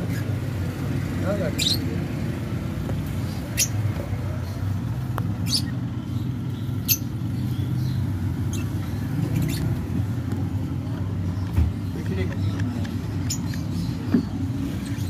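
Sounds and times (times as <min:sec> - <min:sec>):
lovebird chicks squeaking: 0:00.0 - 0:15.0.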